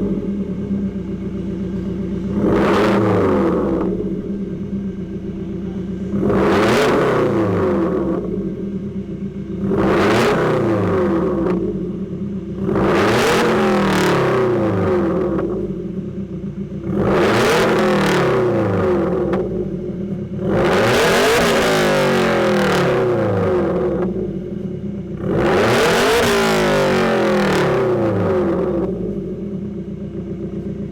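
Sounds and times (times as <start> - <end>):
car engine revving: 0.0 - 29.8.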